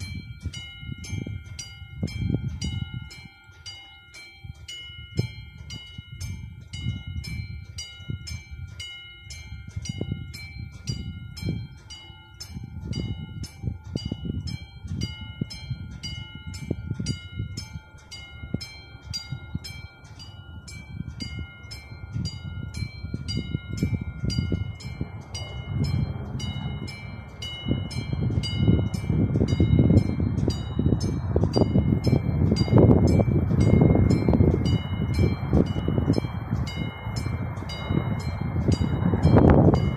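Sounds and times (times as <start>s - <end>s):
level crossing warning bell: 0.0s - 39.9s
wind buffeting microphone: 0.0s - 39.9s.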